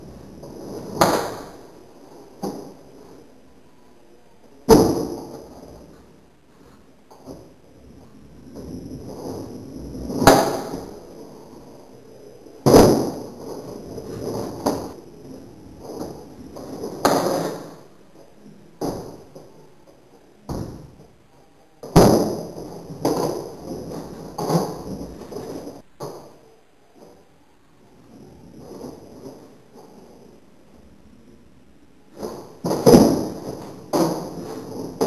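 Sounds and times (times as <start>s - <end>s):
skateboard wheels rolling: 0.0s - 3.3s, 4.7s - 21.1s, 21.8s - 26.4s, 27.9s - 31.4s, 32.1s - 35.0s.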